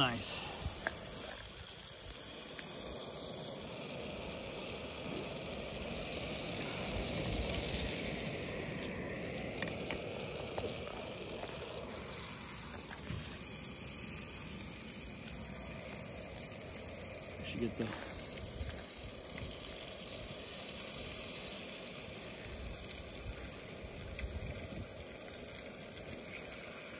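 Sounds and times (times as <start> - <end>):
butter sizzling in a frying pan: 0.0 - 26.9.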